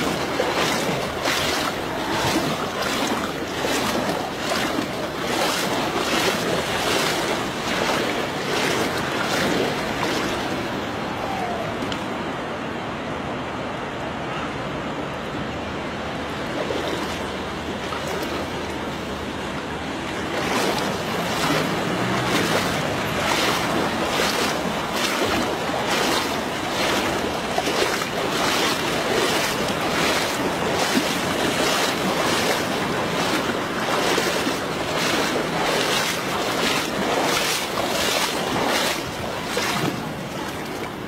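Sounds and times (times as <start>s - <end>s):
footsteps splashing in water: 0.0s - 11.0s, 16.4s - 41.0s
wind rumbling on microphone: 0.0s - 41.0s.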